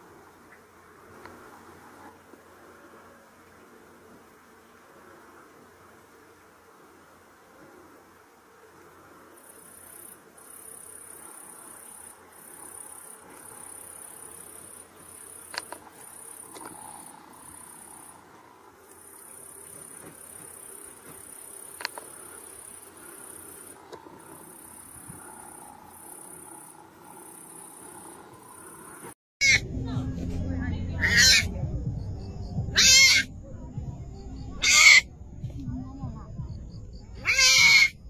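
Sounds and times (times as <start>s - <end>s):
insects chirring: 0.0s - 29.2s, 31.0s - 38.0s.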